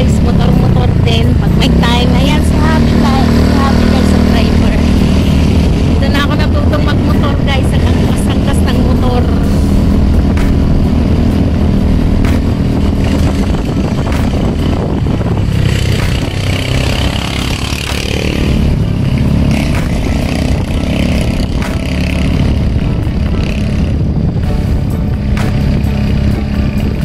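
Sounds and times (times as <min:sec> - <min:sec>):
motorcycle engine running: 0:00.0 - 0:27.0
wind rushing over microphone: 0:00.0 - 0:27.0.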